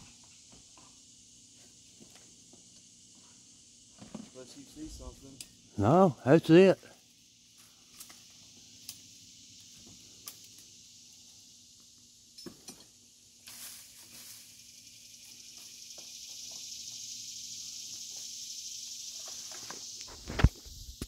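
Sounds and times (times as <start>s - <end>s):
insect chorus buzzing: 0.0s - 21.0s.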